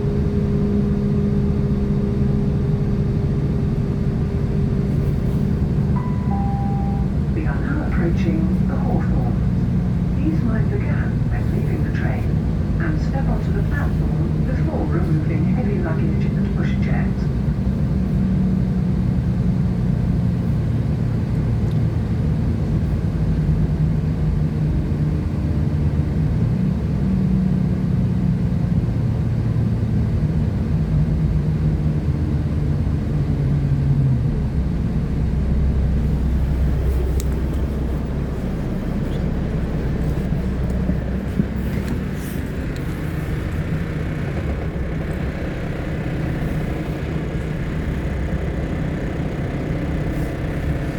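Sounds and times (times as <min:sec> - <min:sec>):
train diesel engine hum: 0:00.0 - 0:50.9.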